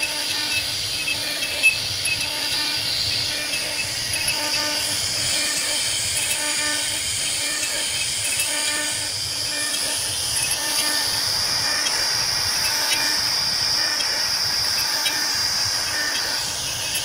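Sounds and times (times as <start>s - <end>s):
end mill cutting wood hiss: 0.0s - 17.0s
router spindle high whine: 0.0s - 17.0s.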